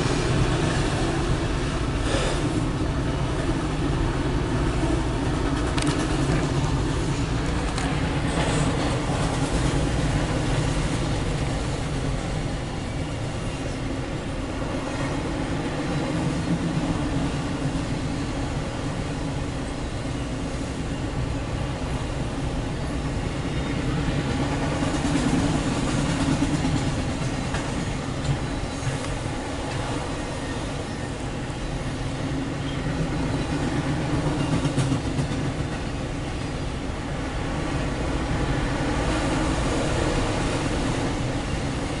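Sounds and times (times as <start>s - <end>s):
train wheels on rails: 0.0s - 42.0s.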